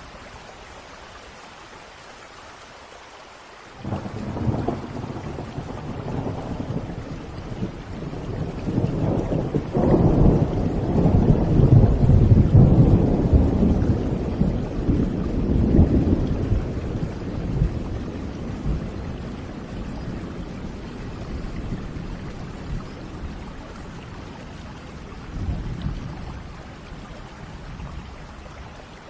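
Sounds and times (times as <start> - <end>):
steady rain: 0.0 - 29.0
thunder rumbling: 3.8 - 28.1.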